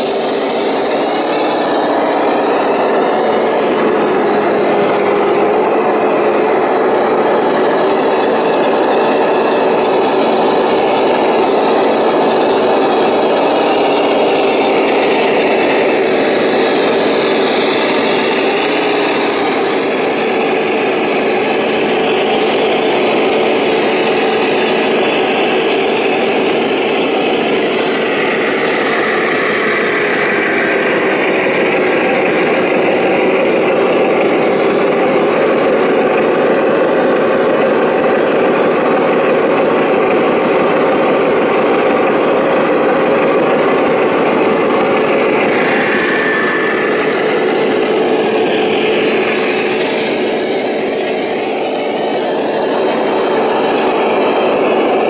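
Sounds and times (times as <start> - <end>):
model truck motors whining: 0.0 - 55.0.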